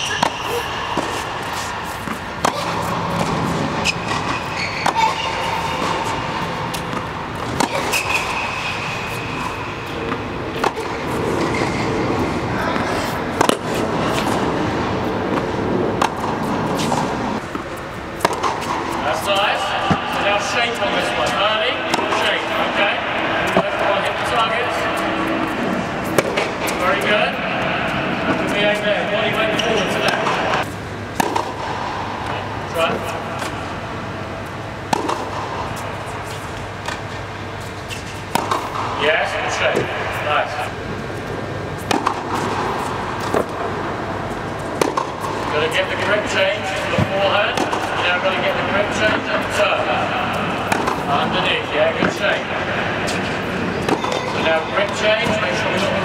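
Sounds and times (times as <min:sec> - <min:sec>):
steady background noise: 0:00.0 - 0:56.0
steady low hum: 0:00.0 - 0:56.0
tennis balls struck by rackets: 0:00.0 - 0:56.0.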